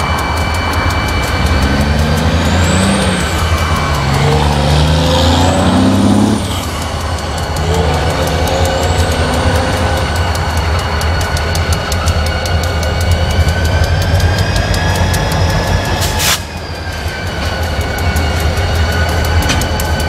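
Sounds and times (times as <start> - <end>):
diesel locomotive engine: 0.0 - 20.0.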